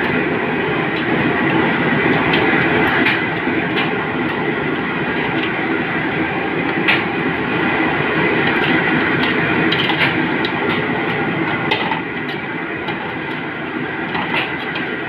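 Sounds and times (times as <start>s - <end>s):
loud background noise: 0.0s - 15.0s.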